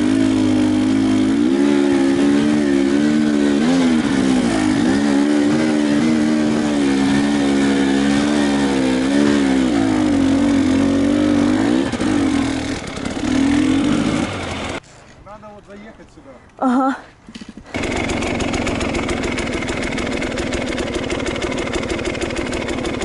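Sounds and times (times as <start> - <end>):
motorcycle engine revving: 0.0 - 14.8, 17.4 - 23.0.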